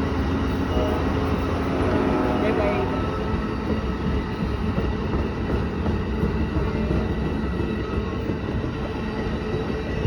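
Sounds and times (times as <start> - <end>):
passenger train passing: 0.0 - 10.0.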